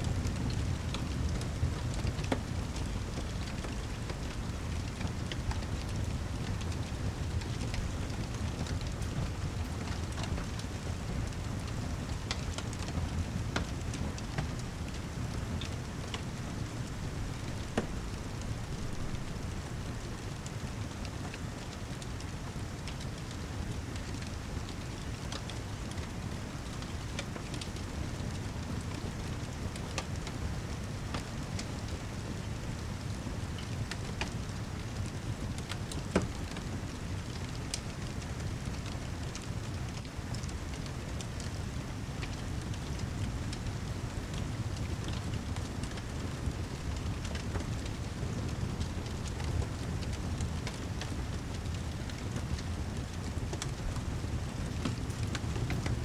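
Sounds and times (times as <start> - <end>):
heavy rain: 0.0 - 56.0
wood fire crackling: 0.0 - 56.0.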